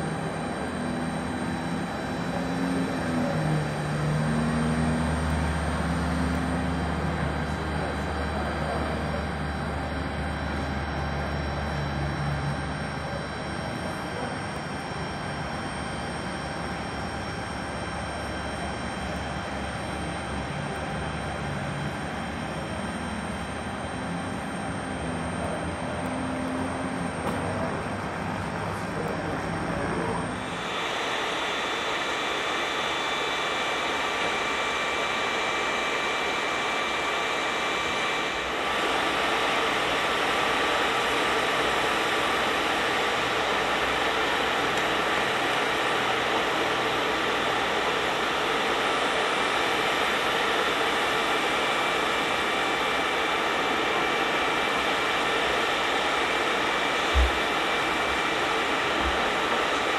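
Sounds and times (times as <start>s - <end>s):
aircraft engines running: 0.0s - 59.9s.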